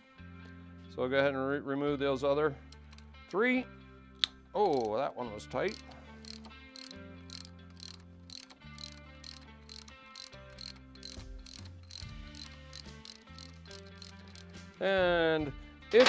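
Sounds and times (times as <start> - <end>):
faint background music with beat: 0.0 - 16.0.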